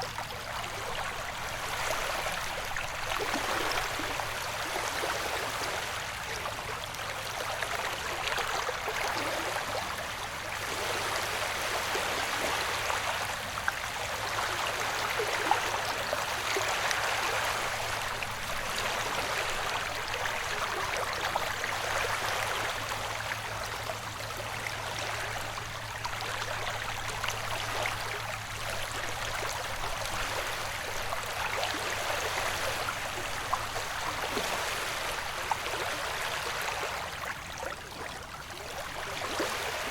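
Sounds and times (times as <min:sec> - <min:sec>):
ocean waves white noise: 0:00.0 - 0:39.9.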